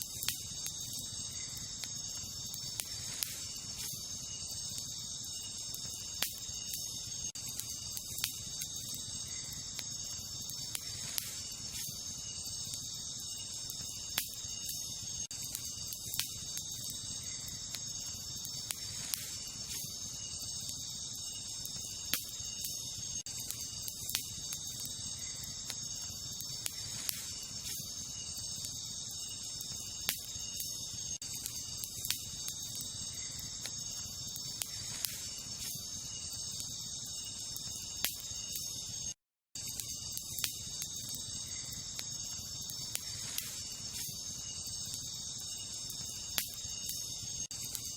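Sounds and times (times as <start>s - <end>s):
campfire crackling and popping: 0.0s - 47.9s
crickets chirping: 0.0s - 47.9s.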